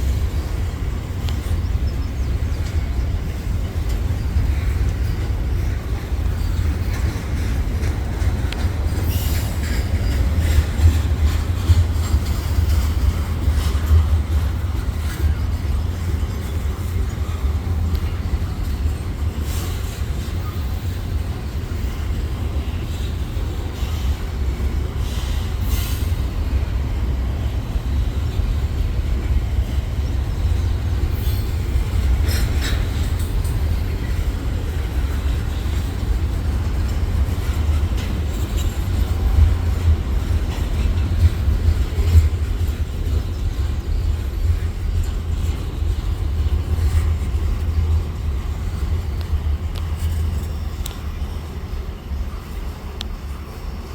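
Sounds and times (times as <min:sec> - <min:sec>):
train rumbling past: 0:00.0 - 0:53.9.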